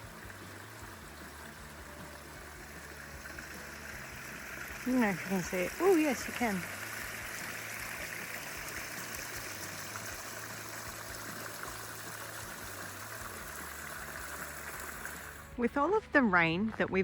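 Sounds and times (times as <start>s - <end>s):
rainwater rushing down a gully: 0.0s - 15.6s.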